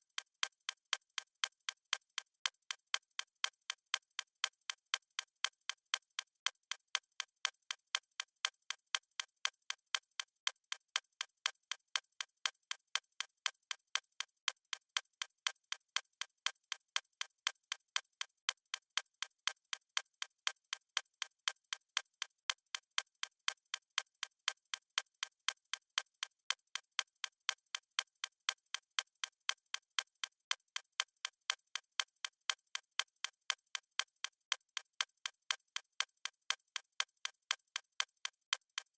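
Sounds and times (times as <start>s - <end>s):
stopwatch ticking: 0.0s - 12.8s, 13.4s - 38.9s.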